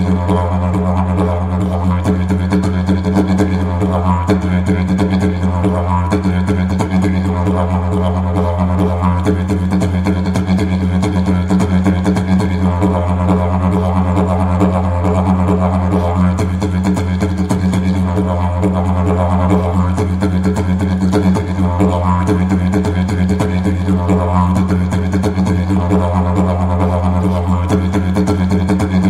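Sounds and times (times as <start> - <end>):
didgeridoo drone: 0.0 - 29.0.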